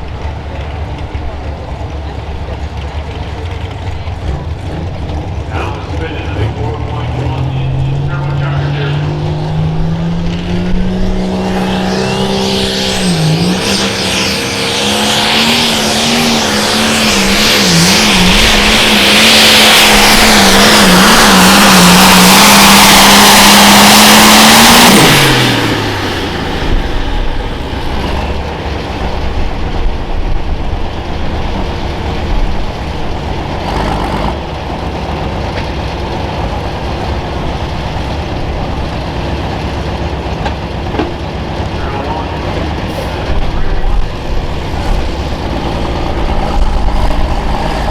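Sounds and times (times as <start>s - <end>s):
diesel tractor engine at full throttle: 0.0s - 47.9s.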